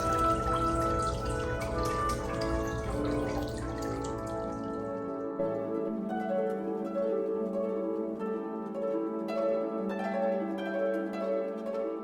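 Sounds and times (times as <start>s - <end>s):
plucked harp music: 0.0s - 12.0s.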